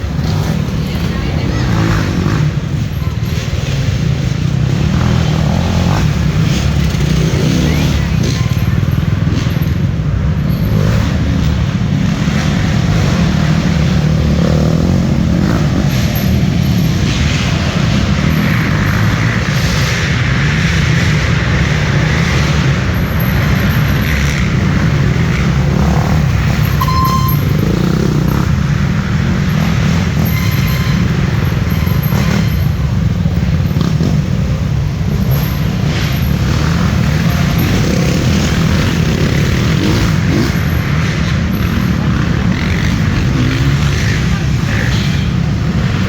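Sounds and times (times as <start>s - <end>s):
dirt bike engines passing: 0.0s - 46.0s.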